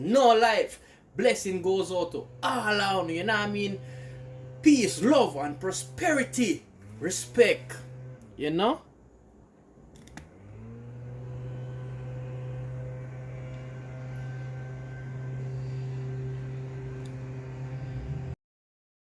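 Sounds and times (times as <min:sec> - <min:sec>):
small electric motor hum: 0:01.3 - 0:08.4, 0:10.0 - 0:18.4.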